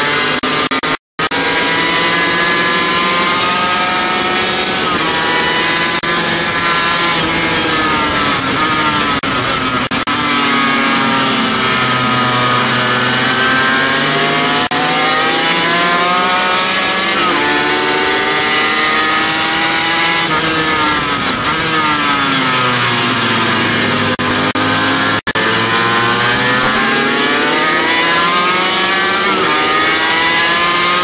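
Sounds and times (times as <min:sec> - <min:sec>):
motorcycle engine at high revs: 0:00.0 - 0:31.0.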